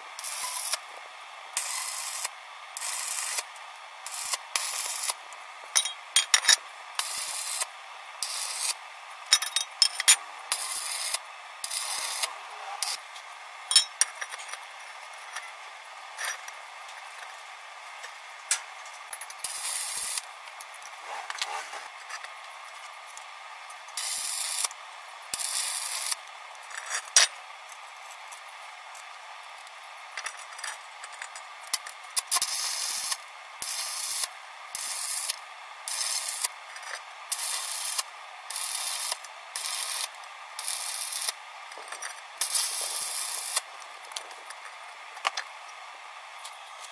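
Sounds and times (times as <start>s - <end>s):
arc welder crackling hiss: 0.0s - 9.4s, 10.0s - 30.2s, 31.2s - 45.7s.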